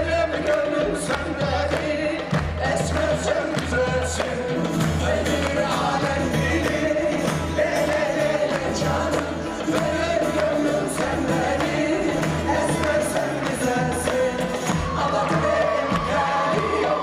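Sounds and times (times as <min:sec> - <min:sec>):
voices singing over a band: 0:00.0 - 0:17.0.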